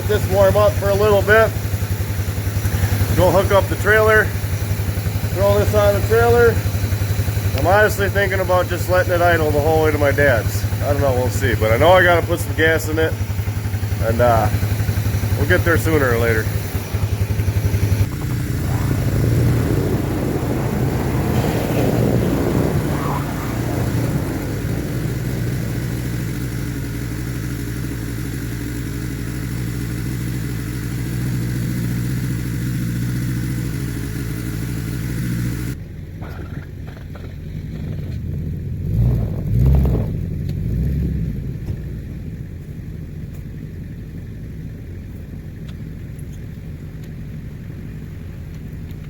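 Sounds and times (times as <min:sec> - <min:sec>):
atv engine idling: 0:00.0 - 0:38.9, 0:40.2 - 0:49.0
dull low engine rumble: 0:00.0 - 0:49.0.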